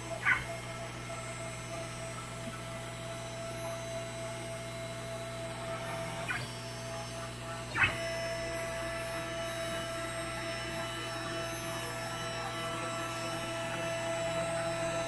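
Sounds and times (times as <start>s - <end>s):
motor tone: 0.0s - 15.0s
router machine hum: 0.0s - 15.0s.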